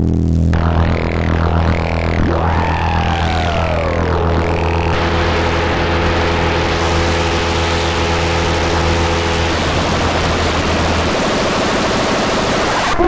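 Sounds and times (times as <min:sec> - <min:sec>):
low synth tones: 0:00.0 - 0:13.0
harsh noisy wash: 0:00.6 - 0:13.0.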